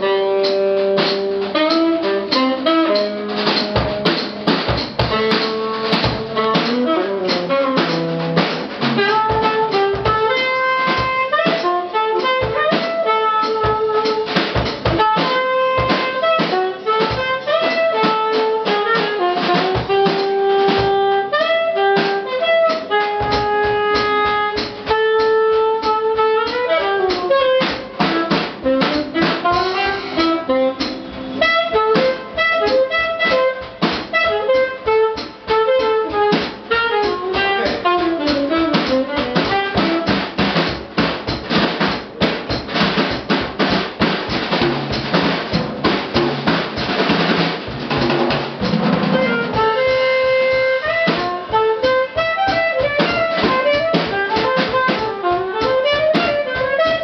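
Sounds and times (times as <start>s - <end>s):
drum kit cymbal and snare: 0.0s - 57.0s
saxophone playing jazz: 0.0s - 57.0s.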